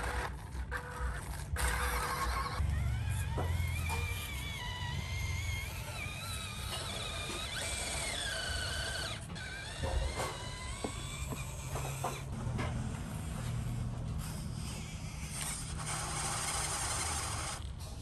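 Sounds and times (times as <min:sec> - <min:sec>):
toy truck electric motor whining: 0:00.0 - 0:18.0.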